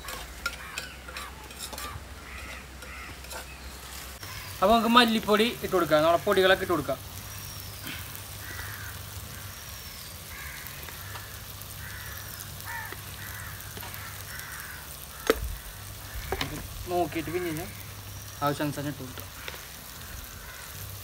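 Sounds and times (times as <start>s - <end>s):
faint frying sizzle: 0.0s - 21.0s
crows cawing: 0.1s - 3.5s, 4.2s - 21.0s.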